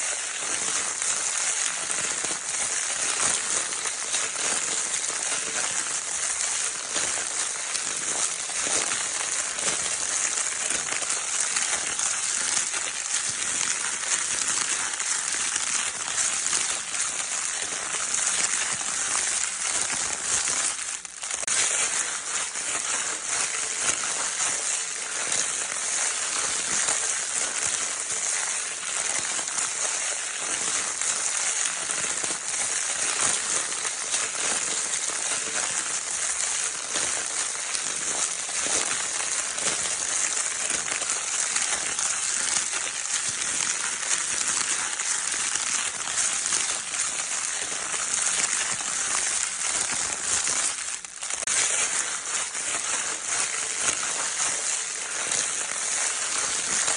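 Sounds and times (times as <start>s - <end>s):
crinkle paper rustling: 0.0s - 56.9s.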